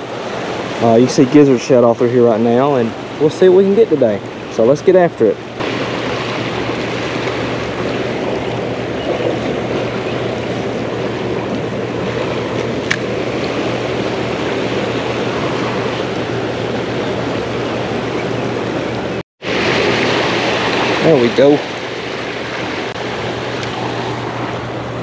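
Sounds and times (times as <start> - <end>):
turbulent water churning: 0.0 - 25.0.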